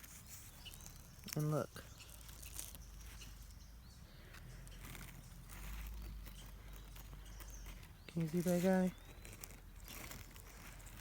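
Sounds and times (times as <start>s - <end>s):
soft rustles: 0.0s - 3.6s, 4.2s - 11.0s
faint bird chirp: 0.0s - 11.0s.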